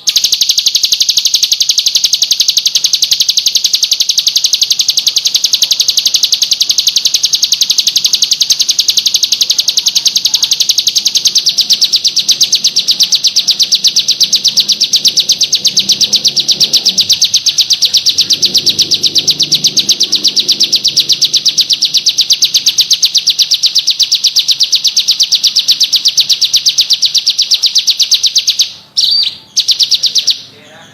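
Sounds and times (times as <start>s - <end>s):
bird chirping in fast pulse: 0.0s - 30.9s.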